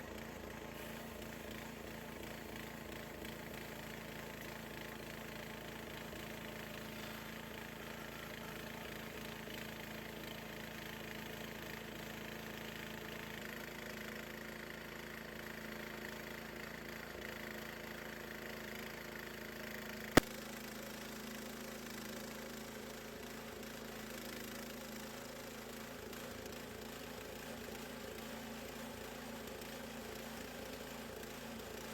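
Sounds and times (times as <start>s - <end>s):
sawmill gasoline engine running: 0.0s - 31.9s.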